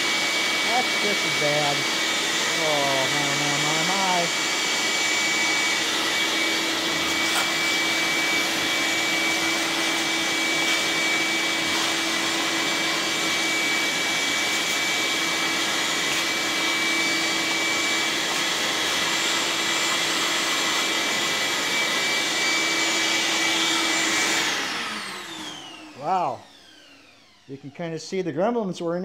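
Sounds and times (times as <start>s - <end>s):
vacuum cleaner whining: 0.0s - 29.0s.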